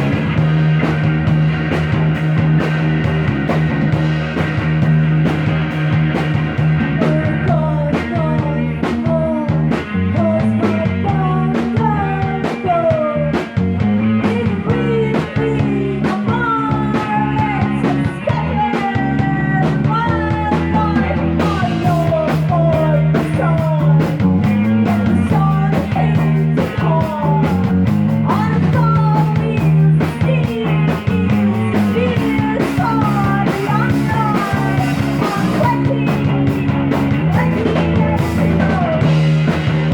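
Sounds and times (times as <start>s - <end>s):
psychedelic rock band: 0.0s - 39.9s
sliding lead guitar line: 0.0s - 39.9s.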